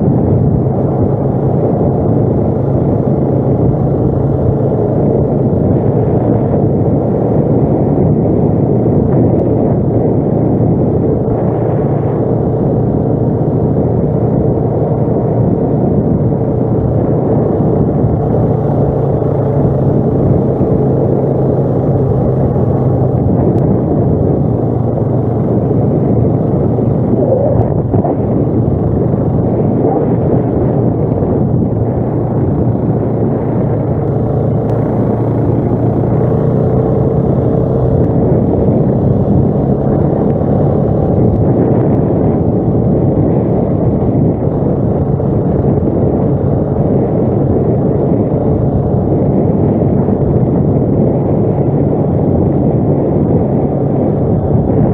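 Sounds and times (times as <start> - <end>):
quad engine droning: 0.0 - 54.9.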